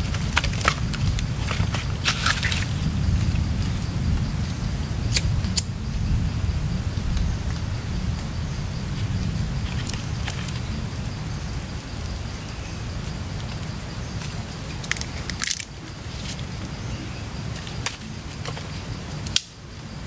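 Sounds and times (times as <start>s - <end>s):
fire crackling and snapping: 0.0s - 20.0s
steady low rumble: 0.0s - 20.0s.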